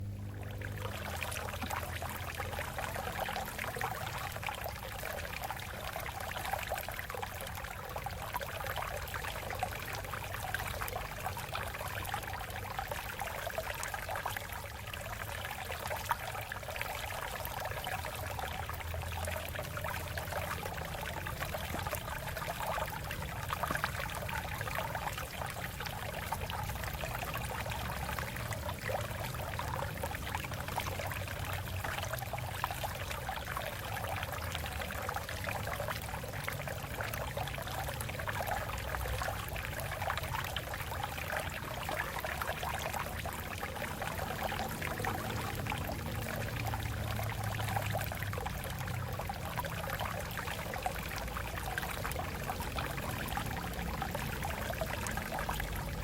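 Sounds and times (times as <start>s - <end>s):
water babbling over rocks: 0.0s - 56.0s.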